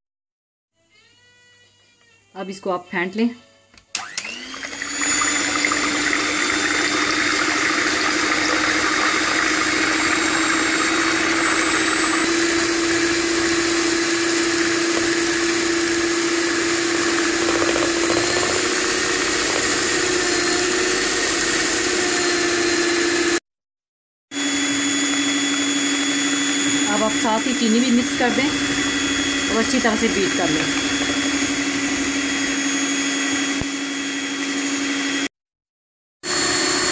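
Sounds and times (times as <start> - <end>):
electric hand mixer whipping eggs: 4.0 - 23.4, 24.4 - 35.3, 36.2 - 36.9.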